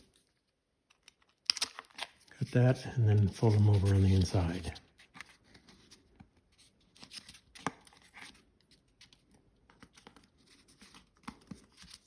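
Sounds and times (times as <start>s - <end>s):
paper rustling and crinkling: 1.0s - 12.0s.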